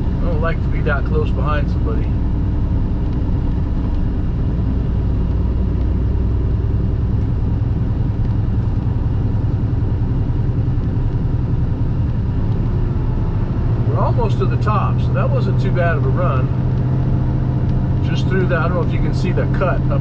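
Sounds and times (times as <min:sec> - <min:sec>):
road noise: 0:00.0 - 0:20.0
truck diesel engine drone: 0:00.0 - 0:20.0.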